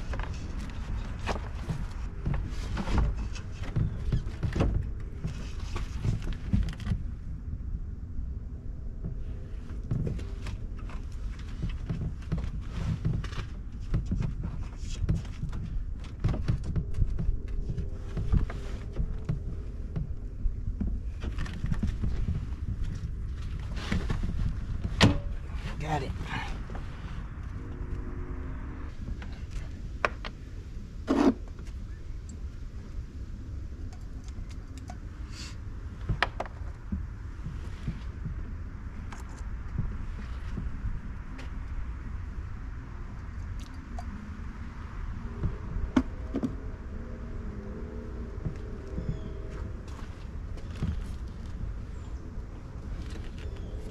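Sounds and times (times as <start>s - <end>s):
wind rumble on microphone: 0.0s - 53.9s.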